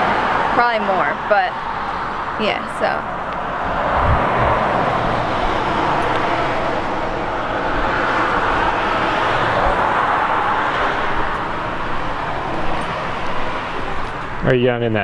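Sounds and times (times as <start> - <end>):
road traffic passing cars: 0.0 - 15.0.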